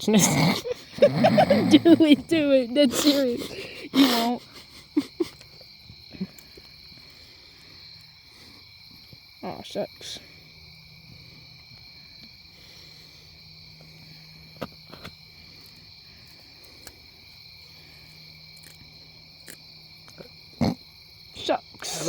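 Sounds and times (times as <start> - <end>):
night insects trilling: 0.0 - 22.0.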